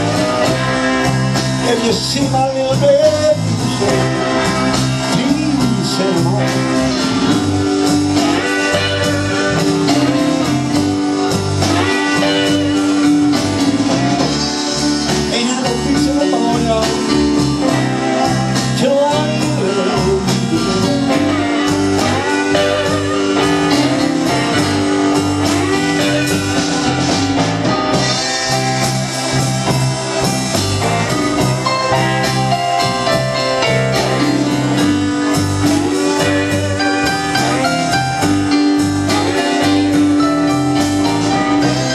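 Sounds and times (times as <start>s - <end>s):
blues band playing: 0.0s - 41.9s.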